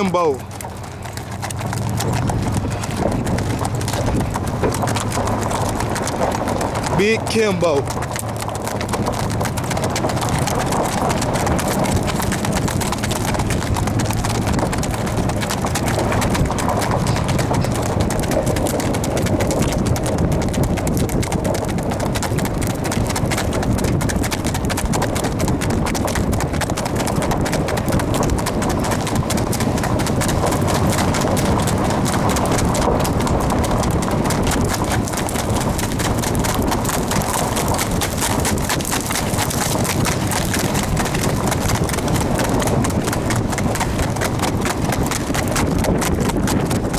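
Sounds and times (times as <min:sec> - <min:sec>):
horse hoofbeats at a fast run: 0:00.0 - 0:46.9.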